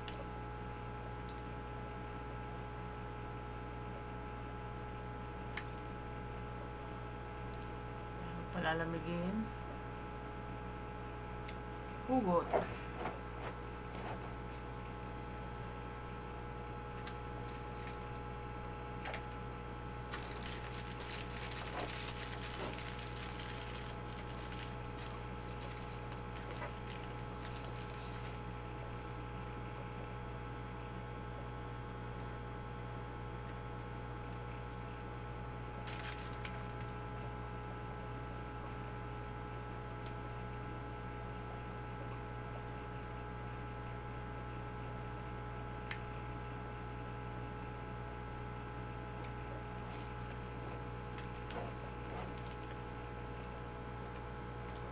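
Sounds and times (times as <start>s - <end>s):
steady electrical hum: 0.0s - 54.9s.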